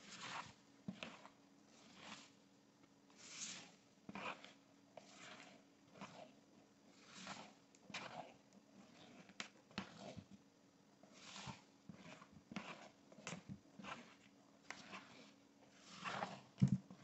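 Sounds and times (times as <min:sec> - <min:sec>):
batter folding swishes and squelches: 0:00.0 - 0:02.5, 0:03.1 - 0:10.4, 0:11.0 - 0:17.0.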